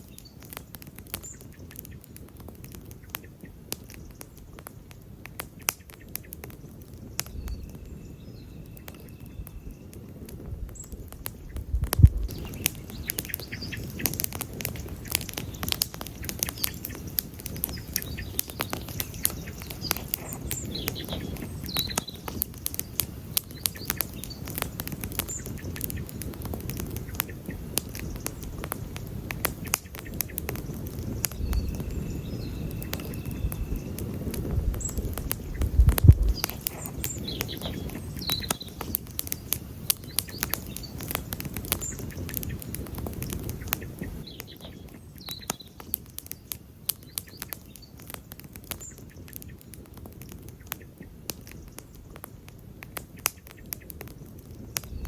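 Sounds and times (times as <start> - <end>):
campfire crackling and popping: 0.0 - 55.0
faint bird chirps: 5.8 - 10.1, 10.7 - 28.6, 29.6 - 52.2.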